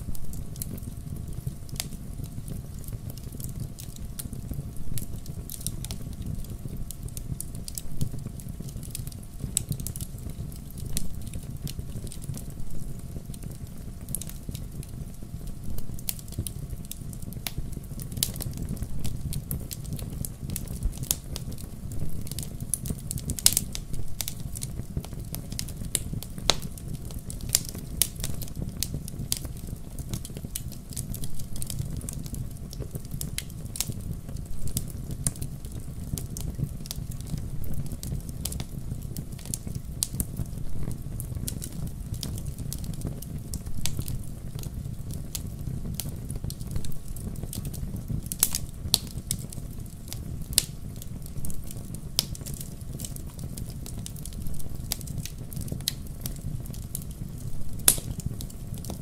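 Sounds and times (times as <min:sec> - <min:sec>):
fire crackles and pops: 0:00.0 - 0:59.0
low rumble of flames: 0:00.0 - 0:59.0.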